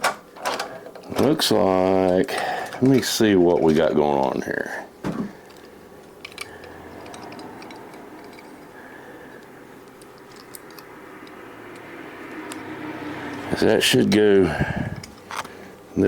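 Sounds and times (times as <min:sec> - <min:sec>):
lock parts clicking and rattling: 0:00.0 - 0:04.4, 0:05.1 - 0:15.6
steady low hum: 0:00.4 - 0:16.0.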